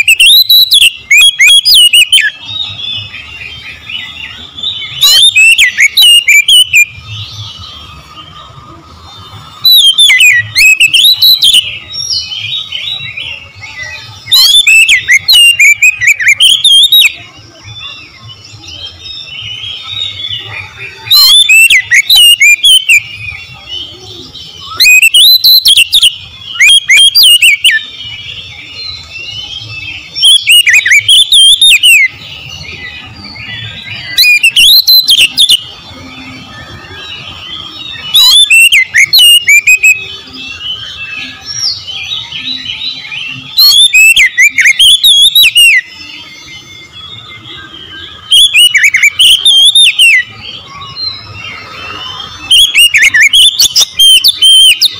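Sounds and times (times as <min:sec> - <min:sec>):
bird singing whistles and trills: 0:00.0 - 0:54.9
faint bird chirping: 0:00.0 - 0:54.9.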